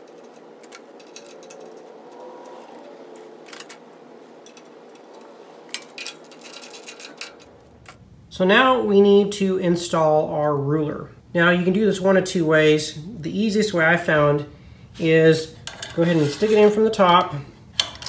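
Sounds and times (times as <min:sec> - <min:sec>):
faint room noise: 0:00.0 - 0:18.0.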